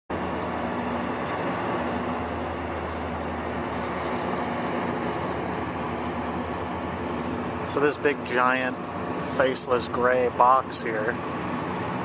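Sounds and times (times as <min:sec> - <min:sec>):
engine drone: 0:00.1 - 0:12.0.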